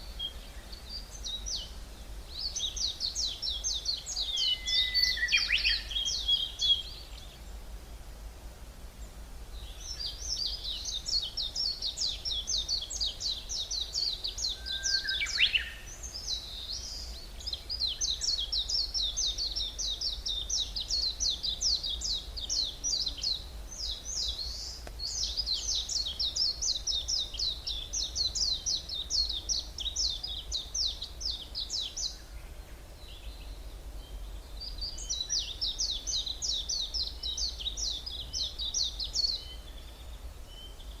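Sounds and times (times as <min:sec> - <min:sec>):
songbirds singing: 0:00.0 - 0:08.0, 0:08.9 - 0:41.0.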